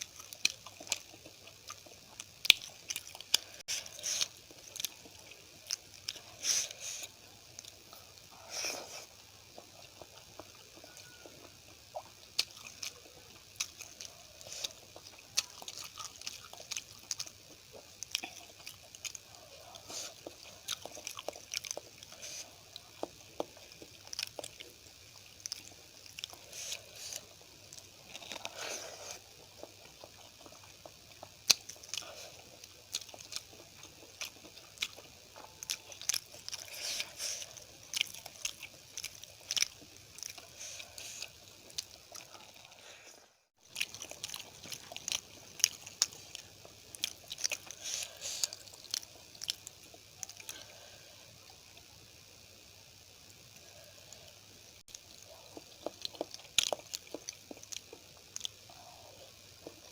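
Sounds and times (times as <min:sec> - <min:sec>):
close chewing and eating: 0:00.0 - 0:59.9.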